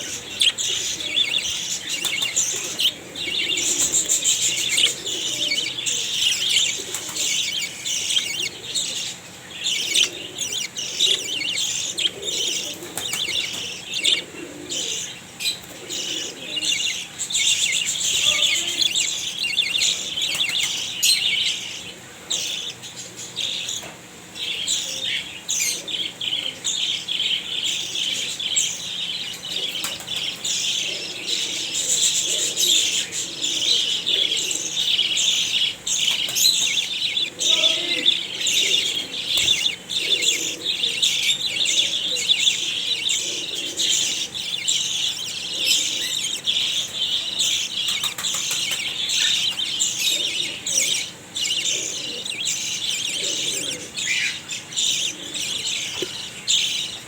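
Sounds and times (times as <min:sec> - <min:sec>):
finches chirping: 0:00.0 - 0:57.0.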